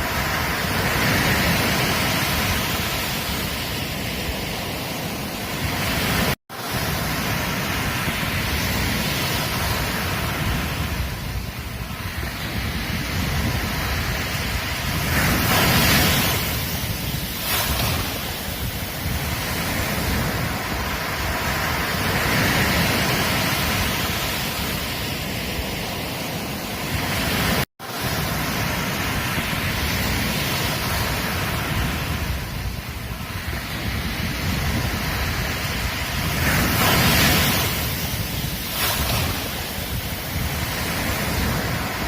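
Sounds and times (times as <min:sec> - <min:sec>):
ocean surf breaking on beach: 0:00.0 - 0:42.0
wind buffeting microphone: 0:00.0 - 0:42.0.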